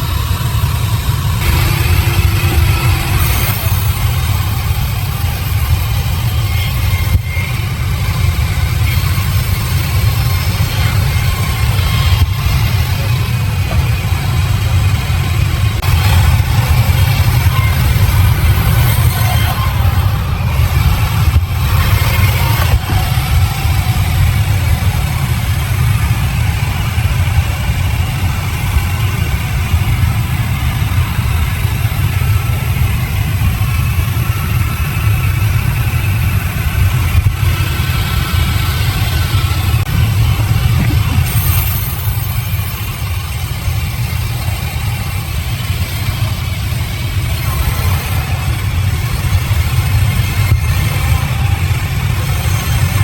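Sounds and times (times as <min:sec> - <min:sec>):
sawmill engine rumbling: 0:00.0 - 0:53.0.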